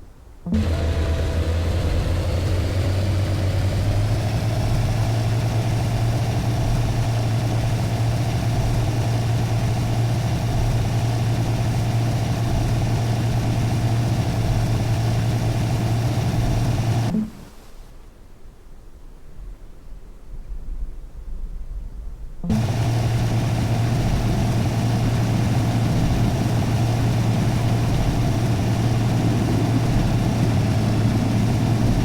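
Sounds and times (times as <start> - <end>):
low engine drone: 0.5 - 17.6, 22.4 - 32.0.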